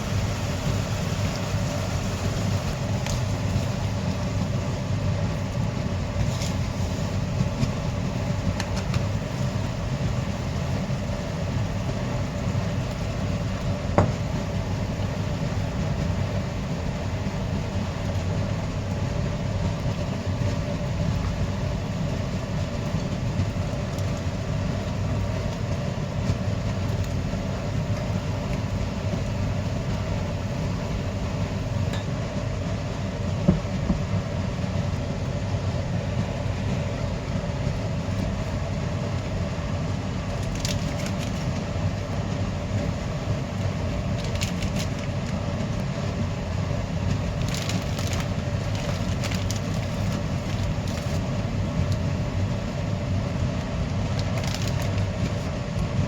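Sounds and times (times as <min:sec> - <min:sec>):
moving train rumble: 0:05.4 - 0:56.0.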